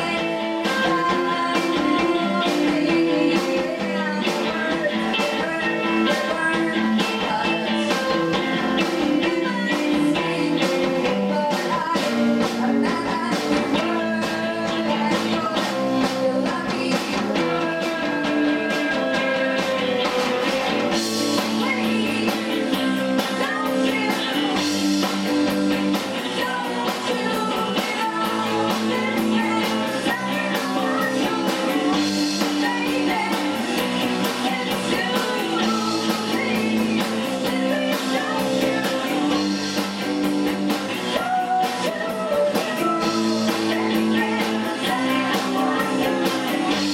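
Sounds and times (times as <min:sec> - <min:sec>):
rock band playing live: 0:00.0 - 0:46.9
woman singing lead: 0:00.0 - 0:46.9.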